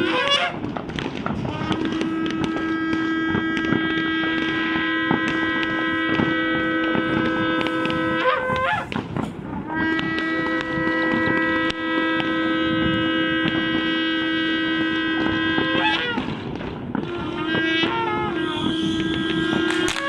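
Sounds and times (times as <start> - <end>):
shofar blasts: 0.0 - 20.0.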